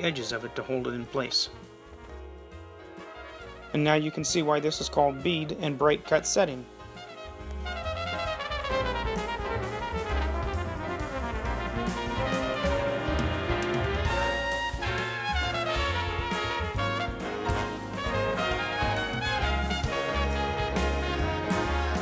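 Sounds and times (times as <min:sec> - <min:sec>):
jazz music with brass: 0:00.0 - 0:22.0.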